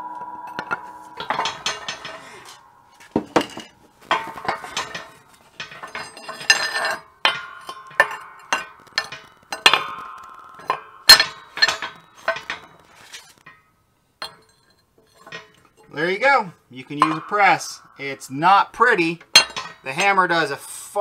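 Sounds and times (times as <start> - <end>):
steel plate clanking on metal: 0.0 - 20.8.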